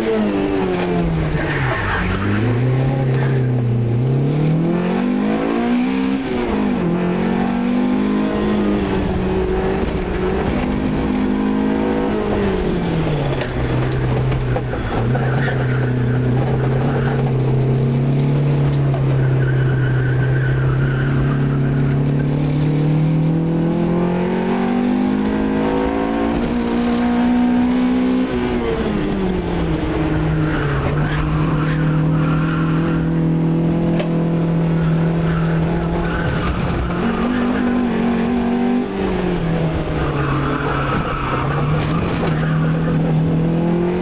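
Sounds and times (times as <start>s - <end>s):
car engine from inside cabin: 2.3s - 44.0s.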